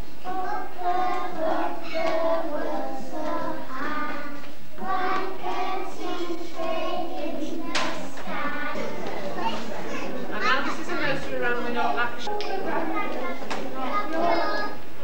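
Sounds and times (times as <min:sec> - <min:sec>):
children singing together: 0:00.0 - 0:11.0, 0:12.3 - 0:15.0.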